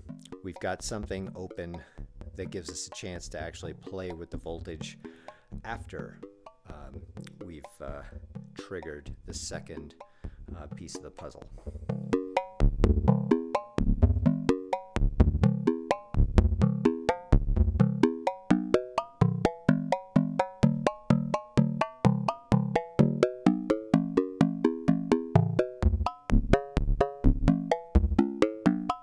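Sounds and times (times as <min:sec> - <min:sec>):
synthesizer plucked notes: 0:00.0 - 0:29.0.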